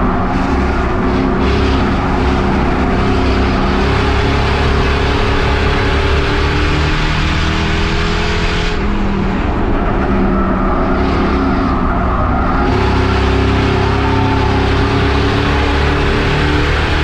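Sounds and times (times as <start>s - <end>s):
race car engine at speed: 0.0s - 17.0s.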